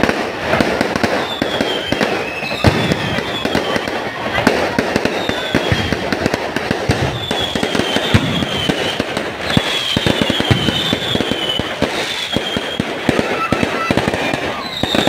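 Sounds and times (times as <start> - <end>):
fireworks cracking and popping: 0.0 - 15.0
high thin firework whistle: 0.0 - 15.0.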